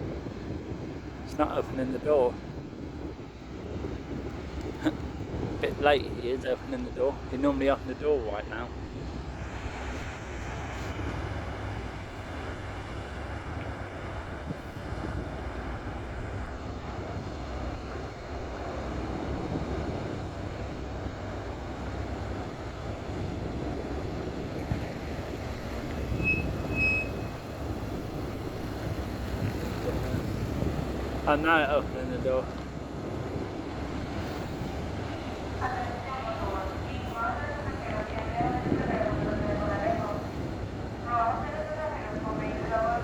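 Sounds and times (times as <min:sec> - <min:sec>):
ferry engines rumbling: 0:00.0 - 0:43.0.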